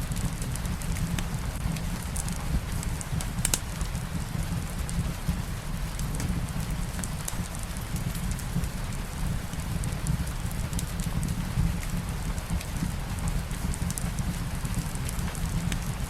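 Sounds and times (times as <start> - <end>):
light rain falling: 0.0 - 16.0
fireplace crackling: 0.2 - 16.0.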